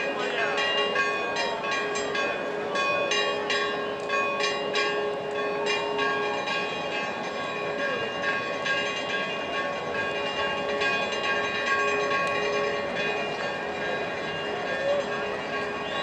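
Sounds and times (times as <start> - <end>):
bells pealing: 0.0 - 16.0.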